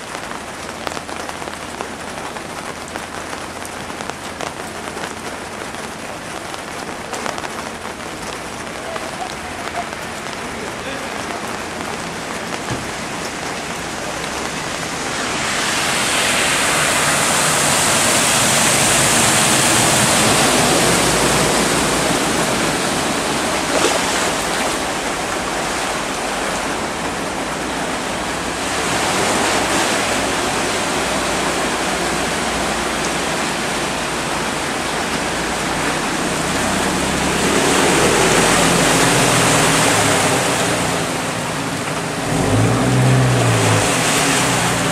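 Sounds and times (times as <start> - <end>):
heavy rain: 0.0 - 44.9
rushing floodwater: 0.0 - 44.9
vehicle splashing through water: 0.0 - 44.9.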